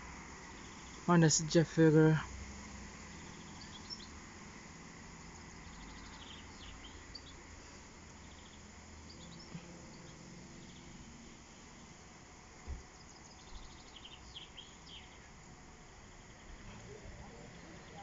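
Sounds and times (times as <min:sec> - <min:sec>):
faint songbirds chirping: 0:00.0 - 0:18.0
low background noise: 0:00.0 - 0:18.0.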